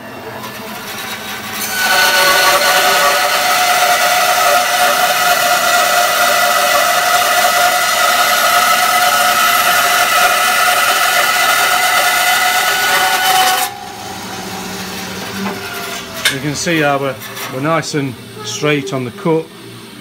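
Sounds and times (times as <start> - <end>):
bandsaw cutting wood: 0.0 - 17.8.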